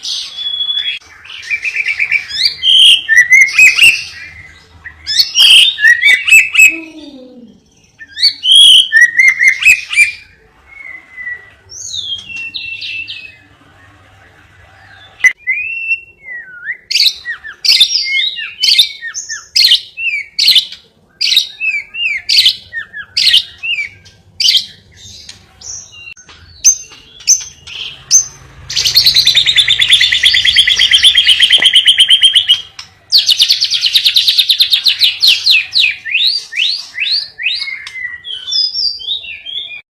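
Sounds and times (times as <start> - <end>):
songbird chirping and trilling: 0.0 - 39.8.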